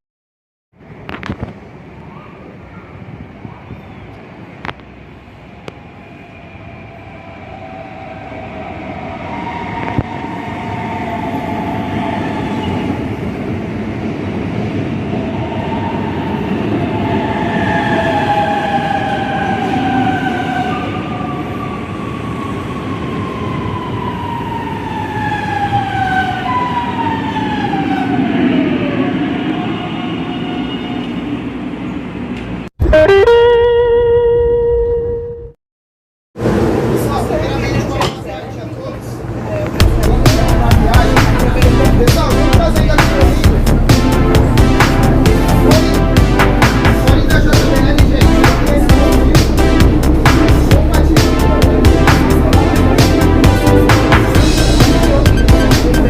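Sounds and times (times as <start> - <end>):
electric train rumble: 0.8 - 33.1, 36.4 - 56.0
train whining tones: 3.8 - 35.5, 36.4 - 56.0.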